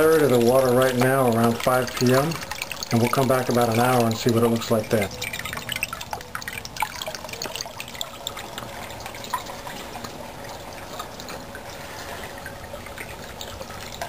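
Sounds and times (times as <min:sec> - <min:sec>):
water dripping: 0:00.0 - 0:14.0
water trickling into pond: 0:00.0 - 0:14.0.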